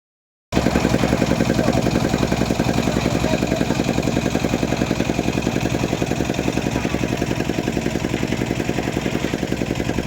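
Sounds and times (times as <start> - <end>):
engine chugging steadily: 0.5 - 10.0.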